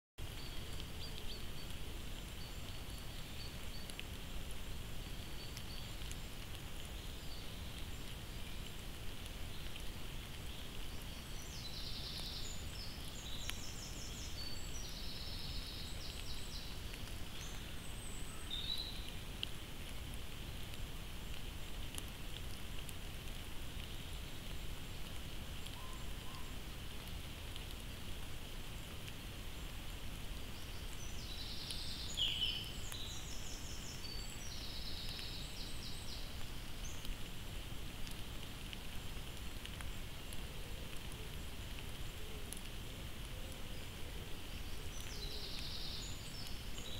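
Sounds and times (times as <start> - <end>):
woodland ambience hiss: 0.2 - 46.9.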